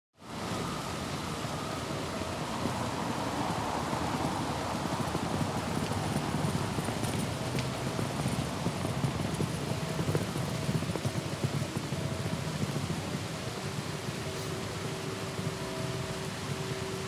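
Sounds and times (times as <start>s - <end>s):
faint humming tones: 0.2s - 17.0s
low rumble of distant traffic: 0.2s - 17.0s.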